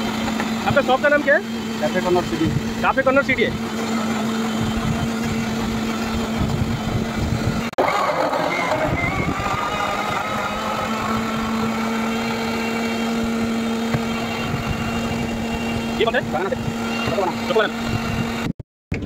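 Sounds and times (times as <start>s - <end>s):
mixer grinder motor humming: 0.0s - 18.5s.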